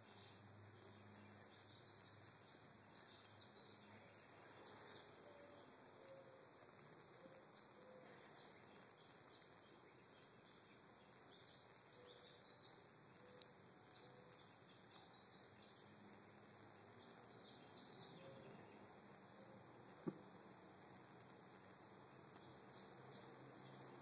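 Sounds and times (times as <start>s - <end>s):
faint distant chirps: 0.0s - 24.0s.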